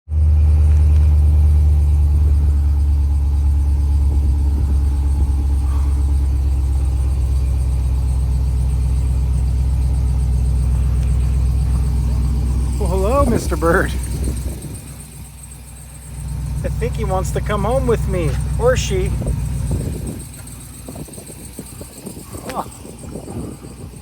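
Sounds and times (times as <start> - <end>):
truck engine idling: 0.1 - 24.0.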